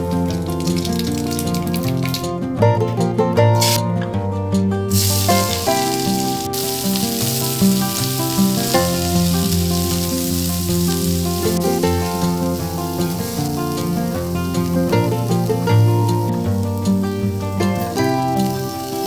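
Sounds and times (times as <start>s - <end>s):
food sizzling in hot fat: 0.0s - 2.4s, 3.6s - 3.9s, 4.9s - 19.0s
background music: 0.0s - 19.0s.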